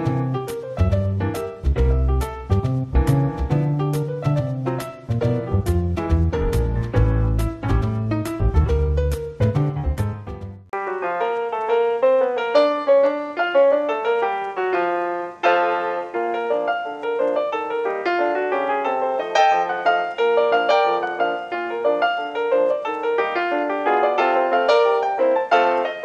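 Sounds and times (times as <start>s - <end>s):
brisk piano tune: 0.0s - 26.0s.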